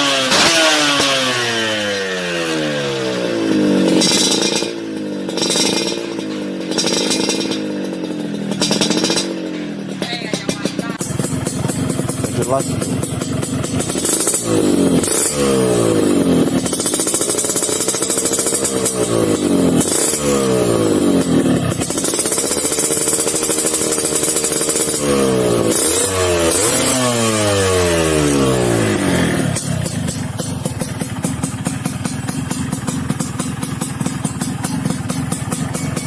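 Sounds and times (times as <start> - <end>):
motorcycle engine revving and idling: 0.0 - 36.0.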